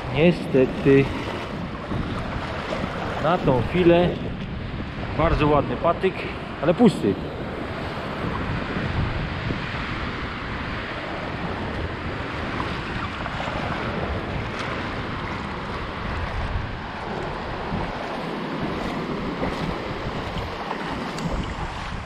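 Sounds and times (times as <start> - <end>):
small waves washing onto sand: 0.0 - 22.0
wind buffeting microphone: 0.0 - 22.0.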